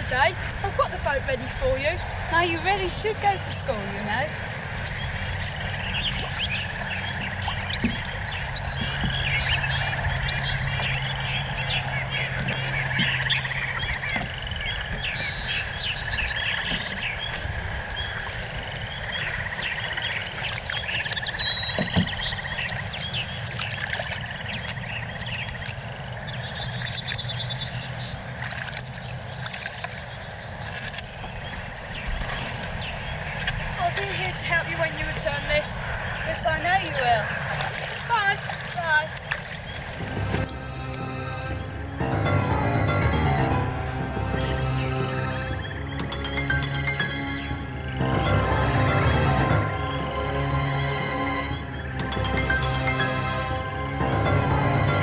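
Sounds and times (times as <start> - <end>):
low hum: 0.0 - 29.5, 39.2 - 55.0
birds singing: 0.0 - 49.0.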